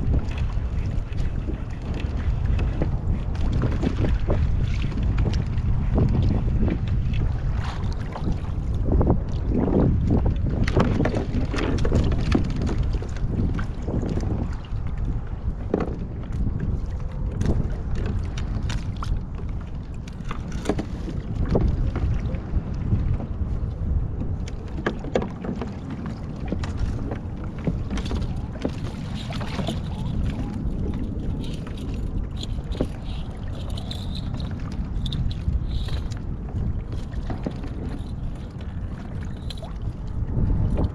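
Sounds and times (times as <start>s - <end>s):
water lapping against kayak hull: 0.0s - 40.9s
wind on microphone: 0.0s - 40.9s.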